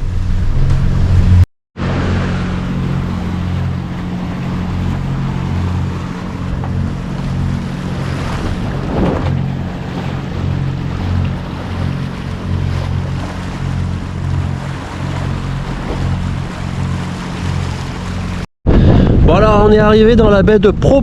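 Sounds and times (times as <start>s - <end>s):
rushing water: 0.0s - 18.5s
boat engine drone: 0.0s - 19.7s
wind on microphone: 0.0s - 21.0s.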